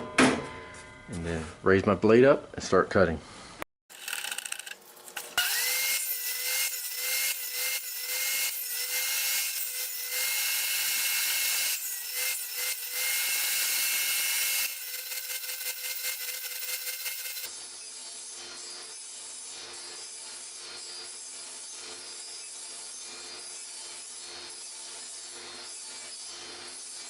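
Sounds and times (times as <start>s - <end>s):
saw blade cutting plywood: 3.9s - 27.0s
table saw motor whine: 3.9s - 27.0s.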